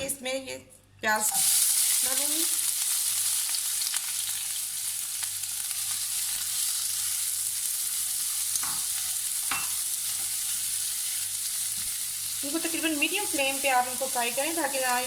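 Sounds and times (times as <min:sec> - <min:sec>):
onions sizzling in oil: 0:01.2 - 0:15.0.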